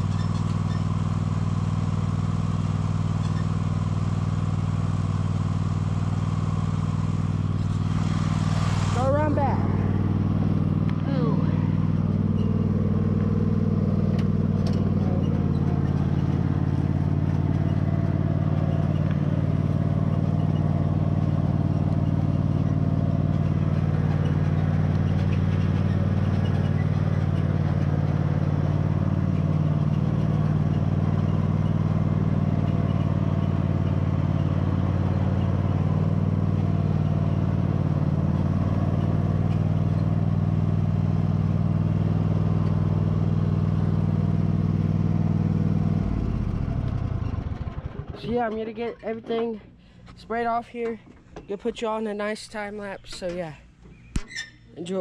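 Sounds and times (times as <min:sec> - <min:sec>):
riding lawn mower engine running: 0:00.0 - 0:55.0.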